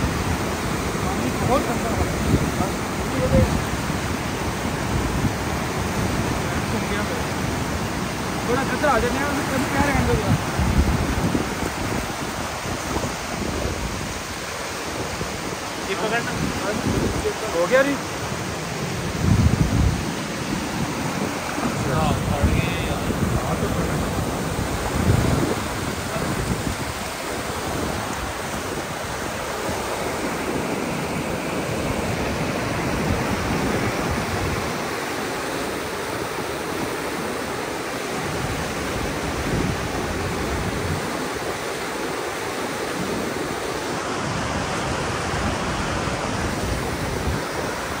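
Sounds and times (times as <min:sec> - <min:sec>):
river rushing over rocks: 0:00.0 - 0:48.0.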